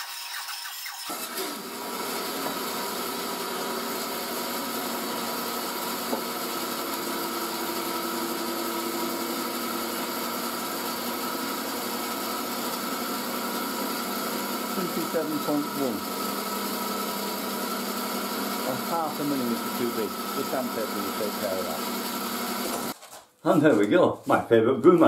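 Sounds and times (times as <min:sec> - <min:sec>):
bandsaw running: 0:00.0 - 0:23.0.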